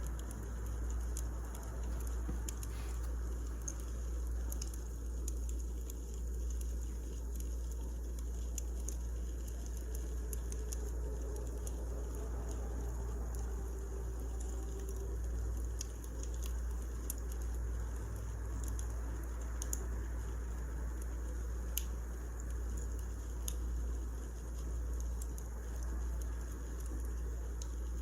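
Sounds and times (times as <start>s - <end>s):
faint steady hum: 0.0s - 28.0s
wood fire crackling: 0.0s - 28.0s.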